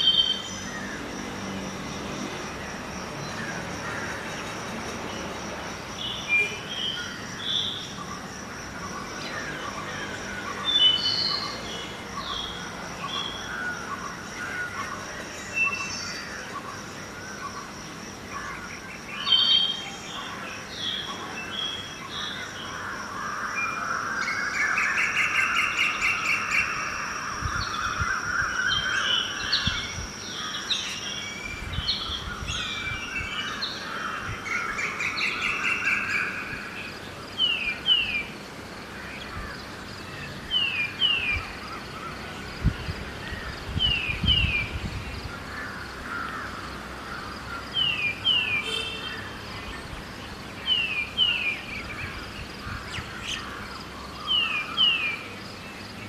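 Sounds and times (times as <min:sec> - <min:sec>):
birds chirping and calling: 0:00.0 - 0:01.2, 0:02.0 - 0:56.0.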